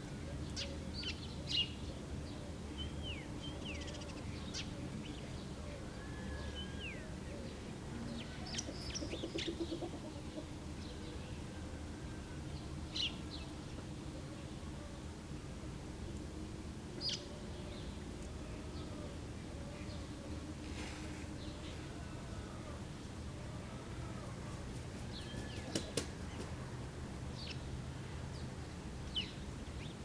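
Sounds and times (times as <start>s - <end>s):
village background noise: 0.0s - 29.8s
songbirds chirping: 0.0s - 30.0s.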